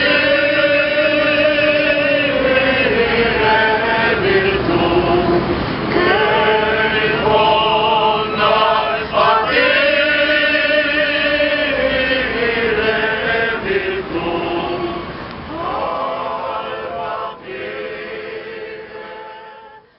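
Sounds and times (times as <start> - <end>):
male choir singing: 0.0 - 19.9.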